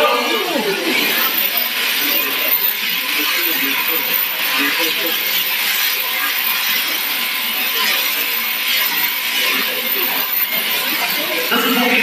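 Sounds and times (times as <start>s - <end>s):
electric shearing handpiece running: 0.0s - 12.0s.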